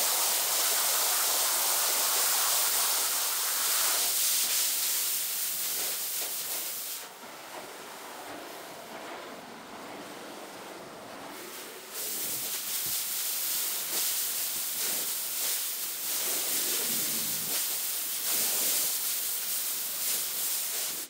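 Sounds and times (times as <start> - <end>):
water jet spraying onto carpet: 0.0 - 21.0.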